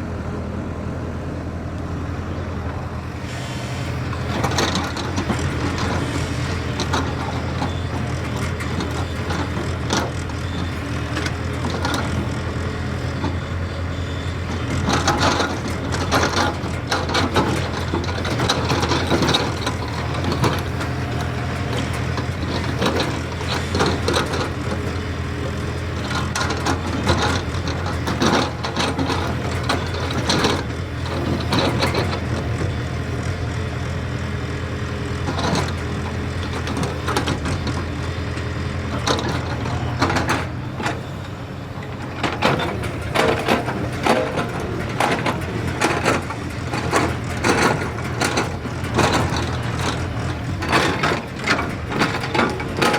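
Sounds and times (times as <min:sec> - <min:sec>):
excavator diesel engine running: 0:00.0 - 0:52.9
machine knocks and clanks: 0:04.1 - 0:13.4, 0:14.0 - 0:33.0, 0:35.2 - 0:41.2, 0:41.8 - 0:52.9.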